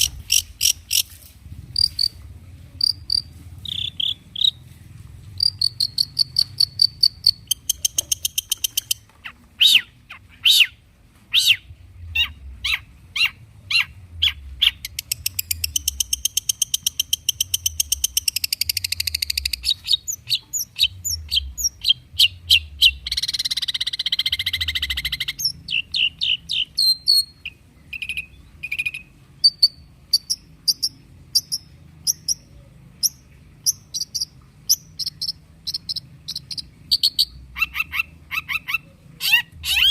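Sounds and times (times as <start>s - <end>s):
bird singing with trills: 5.4s - 39.9s.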